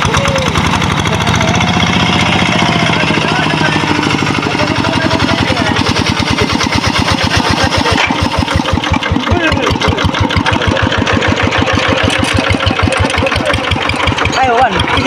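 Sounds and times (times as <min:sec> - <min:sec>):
engine running with pulsing beat: 0:00.0 - 0:15.0.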